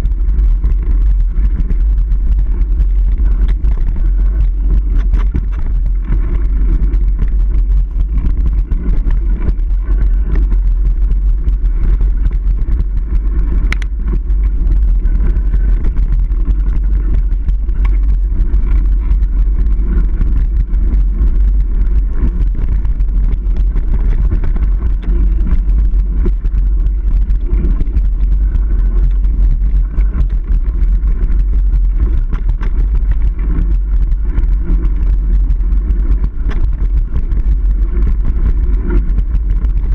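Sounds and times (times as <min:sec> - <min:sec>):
bike trail vibration rumble: 0:00.0 - 0:39.9
wind buffeting microphone: 0:00.0 - 0:39.9.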